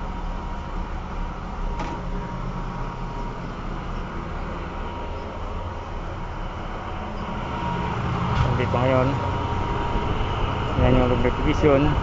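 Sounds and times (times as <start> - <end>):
heavy machinery drone: 0.0 - 12.0.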